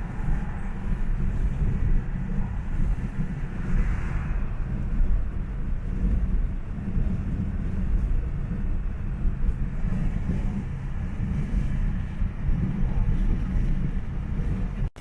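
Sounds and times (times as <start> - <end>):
car engine and road rumble: 0.0 - 15.0
wind noise on microphone: 0.0 - 15.0.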